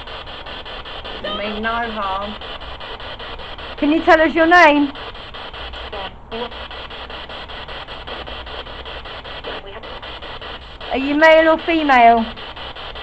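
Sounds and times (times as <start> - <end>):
pulsing radio static hiss: 0.0 - 13.0.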